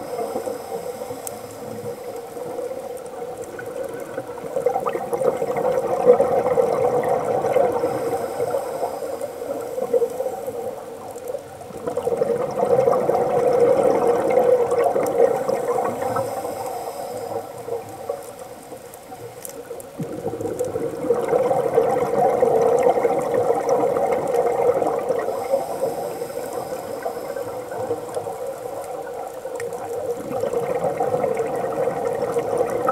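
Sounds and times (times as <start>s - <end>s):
underwater air bubbling: 0.0s - 32.9s.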